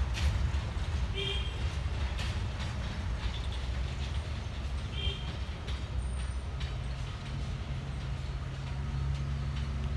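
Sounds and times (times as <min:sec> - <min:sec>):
freight wagons rumbling on rails: 0:00.0 - 0:09.9.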